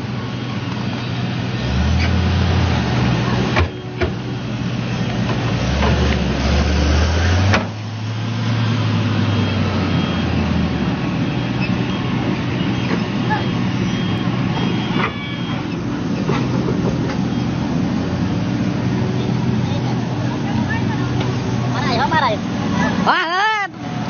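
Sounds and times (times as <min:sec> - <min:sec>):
excavator diesel engine: 0:00.0 - 0:24.0.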